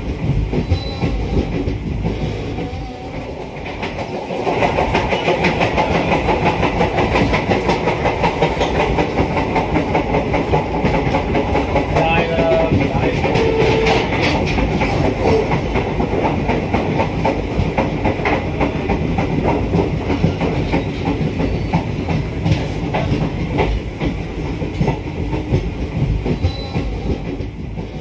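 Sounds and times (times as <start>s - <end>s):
clickety-clack of rails: 0.0s - 28.0s
train wheels rumbling on track: 0.0s - 28.0s.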